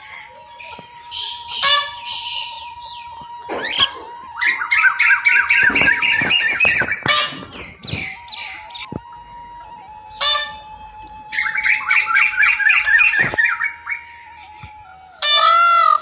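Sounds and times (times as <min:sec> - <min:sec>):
birds squawking and chirping: 0:00.0 - 0:16.0
rapid harsh bird notes: 0:00.0 - 0:16.0.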